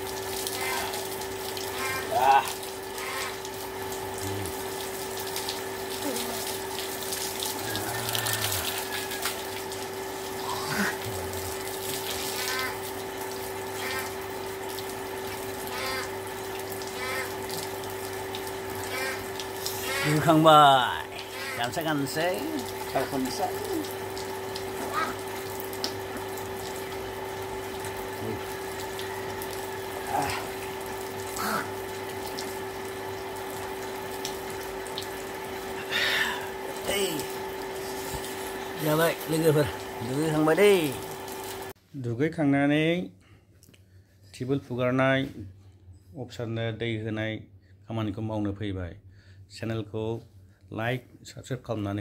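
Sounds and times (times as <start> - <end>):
water gushing and splashing: 0.0 - 41.7
steady hum: 0.0 - 41.8.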